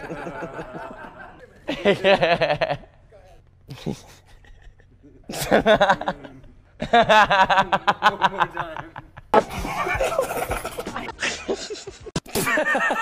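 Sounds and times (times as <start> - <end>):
man laughing hard: 0.0 - 3.0, 3.7 - 13.0.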